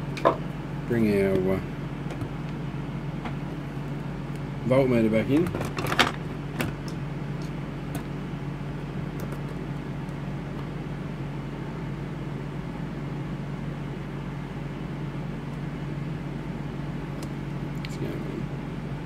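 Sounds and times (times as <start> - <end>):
low electrical hum with hiss: 0.0 - 19.0.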